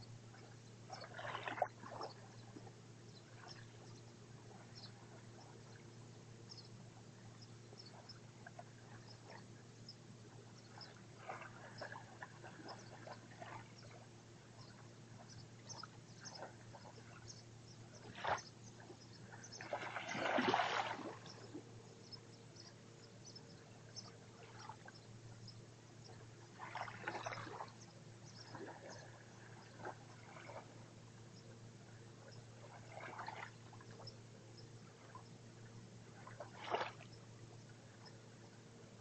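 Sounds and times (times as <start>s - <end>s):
small waves lapping on shore: 0.1s - 39.0s.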